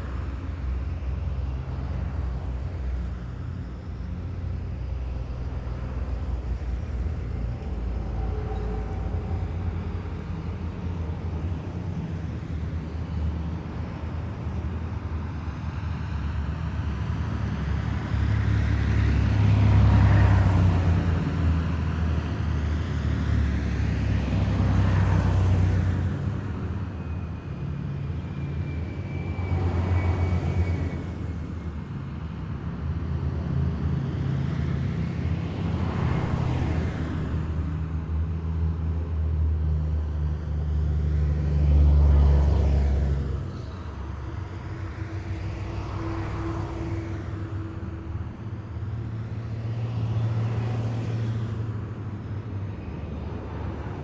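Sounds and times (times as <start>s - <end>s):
heavy vehicles driving past: 0.0s - 54.0s.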